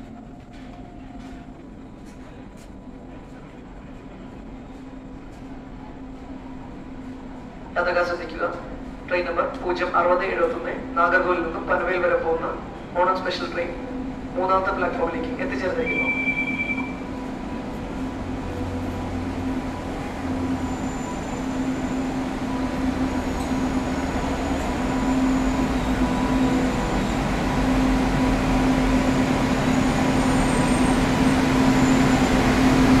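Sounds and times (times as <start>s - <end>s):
electric locomotive hum: 0.0s - 33.0s
rolling rail noise: 0.0s - 33.0s.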